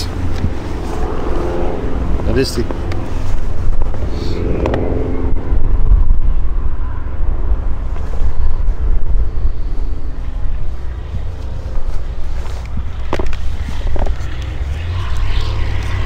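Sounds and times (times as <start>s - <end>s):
faint droning tone: 0.0s - 16.0s
low engine rumble: 0.0s - 16.0s.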